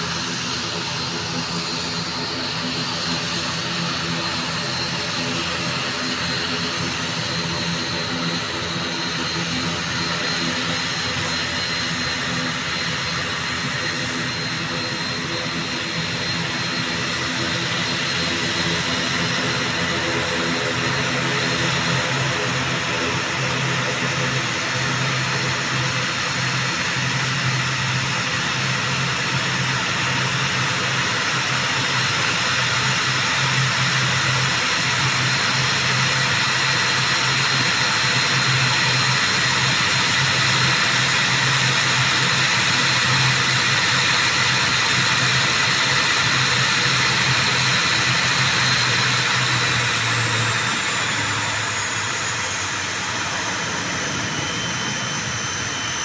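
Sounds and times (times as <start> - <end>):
turboprop engines running: 0.0 - 56.0.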